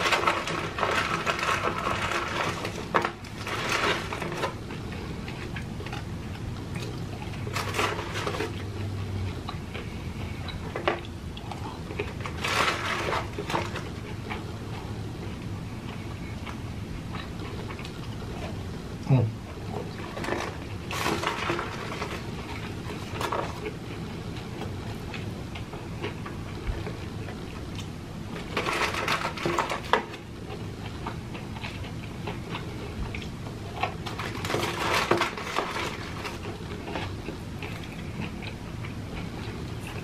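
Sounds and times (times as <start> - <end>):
person chewing crunchy food: 0.0 - 18.8, 19.5 - 40.0
steady low hum: 0.0 - 40.0.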